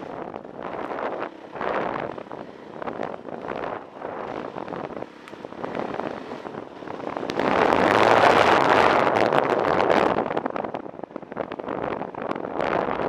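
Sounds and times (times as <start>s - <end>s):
dirt bike engine: 0.0s - 13.0s
wind rushing across microphone: 0.0s - 13.0s.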